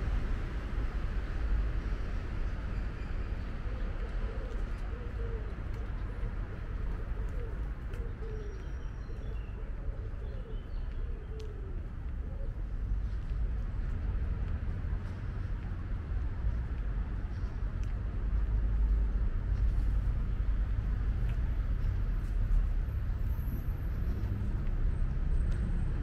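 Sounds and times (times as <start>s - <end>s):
city ambience rumble: 0.0s - 26.0s.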